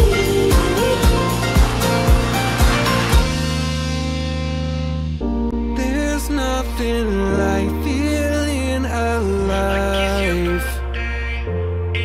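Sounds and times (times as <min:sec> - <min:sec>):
song with gliding melody: 0:00.0 - 0:12.0.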